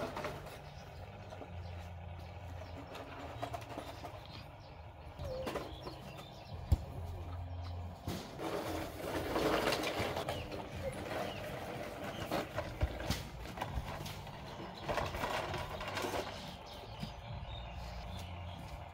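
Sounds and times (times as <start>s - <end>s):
toy truck scraping over dirt: 0.0s - 6.5s, 7.4s - 18.9s.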